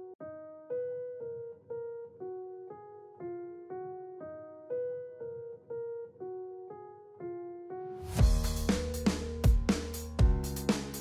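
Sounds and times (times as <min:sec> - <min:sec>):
simple piano-like melody: 0:00.0 - 0:11.0.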